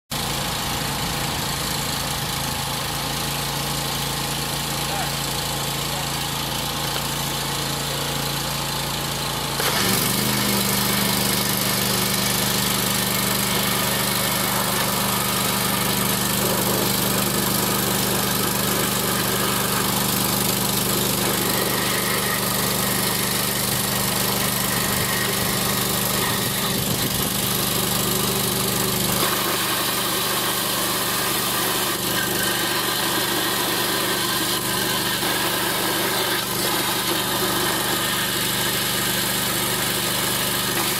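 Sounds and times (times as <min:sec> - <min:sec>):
sewer jetter engine running: 0:00.2 - 0:40.9.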